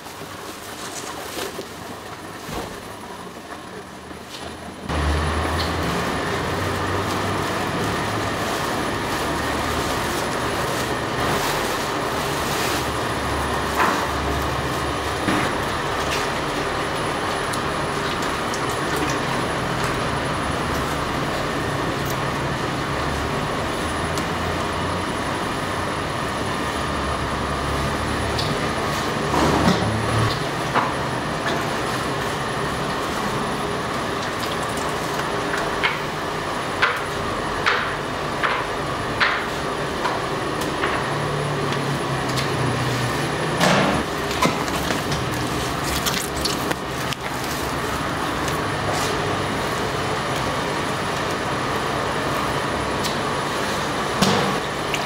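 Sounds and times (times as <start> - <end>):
dough-kneading machine running: 0.0 - 55.0.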